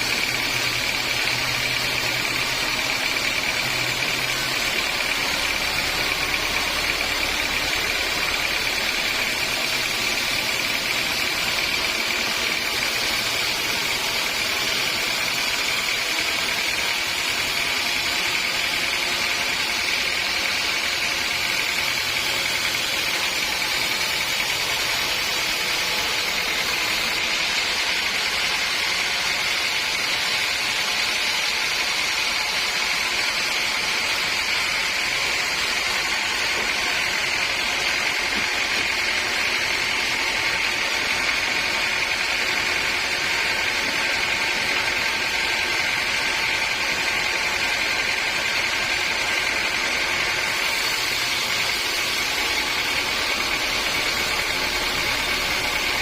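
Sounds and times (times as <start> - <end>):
sawmill machinery whining: 0.0 - 56.0.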